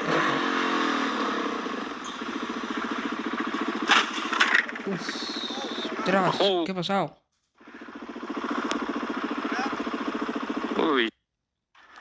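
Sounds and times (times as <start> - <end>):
motorcycle engine running: 0.0 - 6.6, 7.6 - 11.1.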